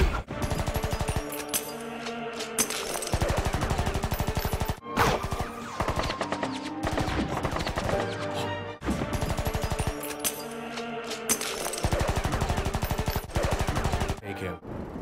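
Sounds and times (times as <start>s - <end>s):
music: 0.0s - 14.8s.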